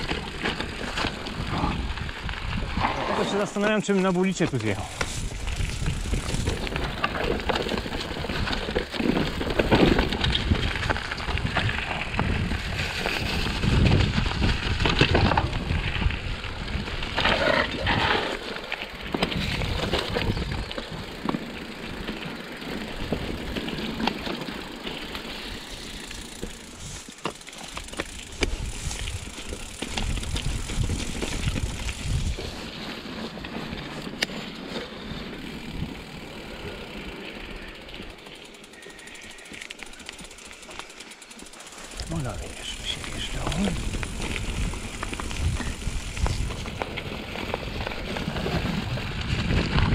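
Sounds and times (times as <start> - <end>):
bike frame and chain rattling: 0.0 - 49.9
bike tyres crunching over dirt: 0.0 - 49.9.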